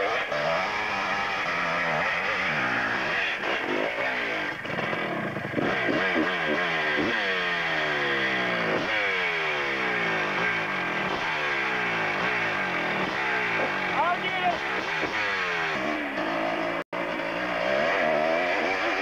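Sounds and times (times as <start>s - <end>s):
motorcycle engine revving hard: 0.0s - 19.0s.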